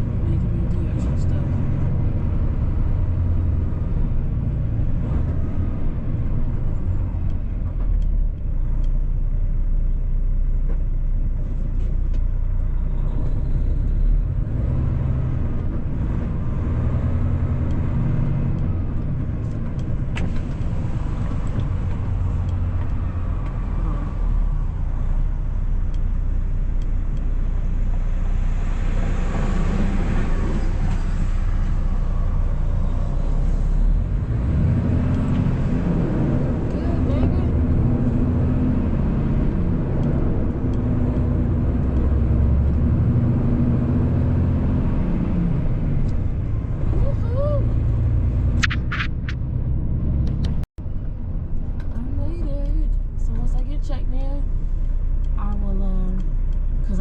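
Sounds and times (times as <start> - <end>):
diesel engine rumble: 0.0 - 57.0
road noise: 0.0 - 57.0.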